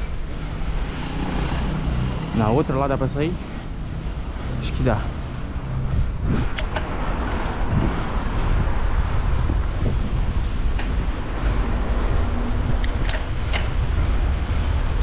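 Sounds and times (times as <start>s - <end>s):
road traffic rumble: 0.0s - 15.0s
wind rushing over microphone: 0.0s - 15.0s.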